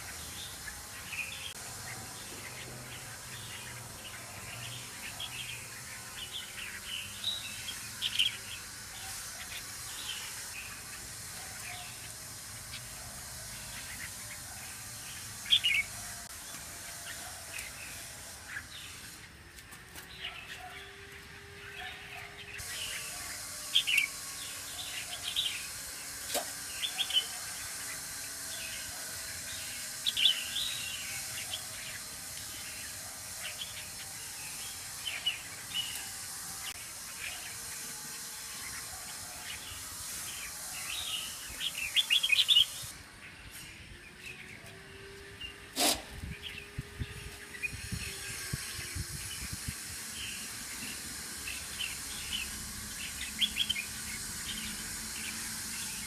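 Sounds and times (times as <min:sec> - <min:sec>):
steady hiss: 0:00.0 - 0:20.3, 0:22.4 - 0:43.9, 0:45.0 - 0:56.0
birds chirping and calling: 0:00.0 - 0:56.0.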